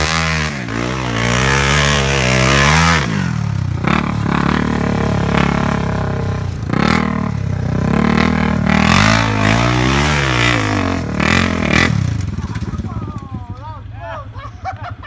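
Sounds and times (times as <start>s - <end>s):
atv engine revving: 0.0s - 14.9s.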